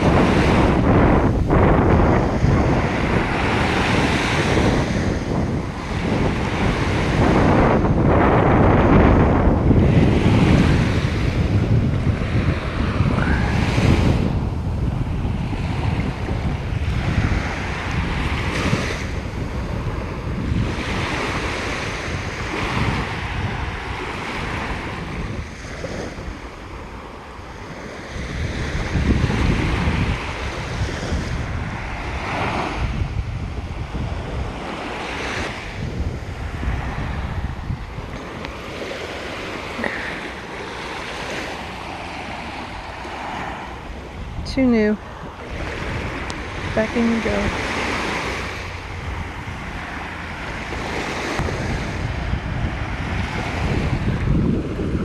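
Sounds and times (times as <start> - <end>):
ocean waves breaking: 0.0 - 55.0
wind buffeting microphone: 0.0 - 55.0.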